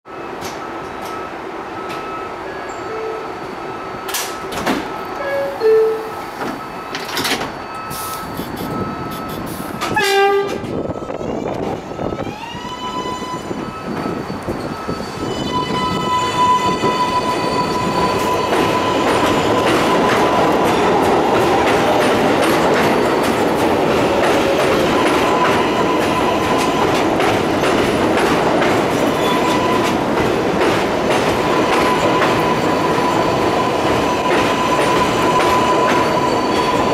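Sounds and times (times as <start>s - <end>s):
subway train motors whining: 0.1s - 36.9s
wheel and rail noise: 0.1s - 36.9s
train clunk: 0.2s - 3.0s, 3.8s - 12.3s, 13.2s - 36.9s.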